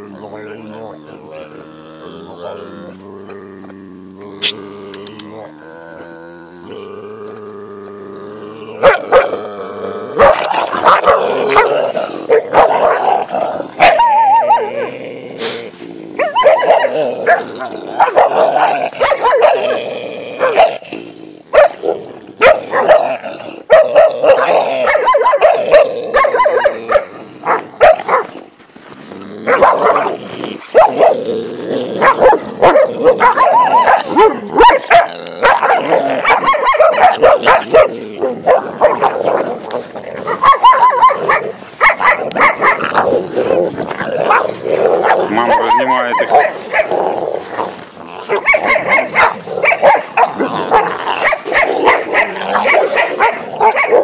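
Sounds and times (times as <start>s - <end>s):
dogs growling and barking: 0.0s - 54.0s.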